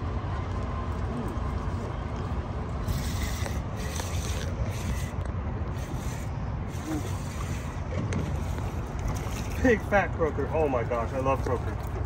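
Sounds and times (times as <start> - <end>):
water around a boat: 0.0 - 12.0
wind: 0.0 - 12.0.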